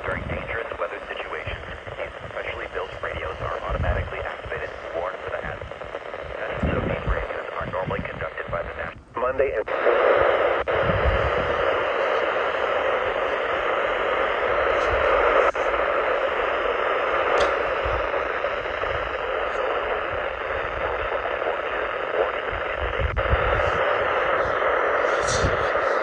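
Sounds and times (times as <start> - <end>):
radio static hiss: 0.0 - 26.0
low rumbles: 1.4 - 26.0.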